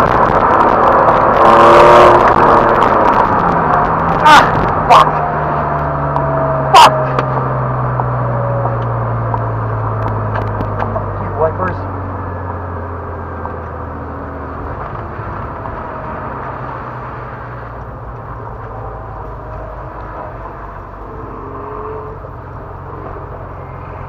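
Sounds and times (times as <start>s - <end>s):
car engine running steadily: 0.0s - 24.0s
road and tyre noise: 0.0s - 24.0s.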